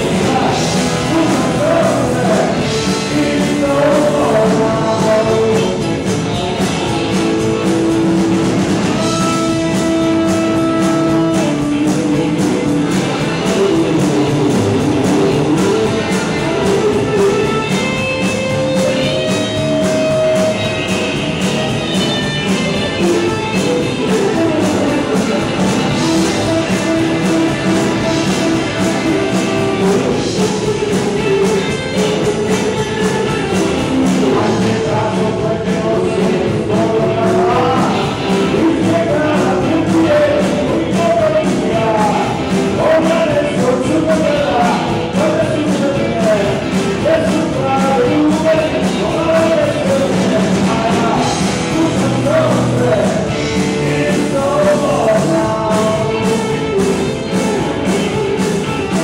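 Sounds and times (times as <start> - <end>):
person singing: 0.0 - 59.0
rock band playing: 0.0 - 59.0.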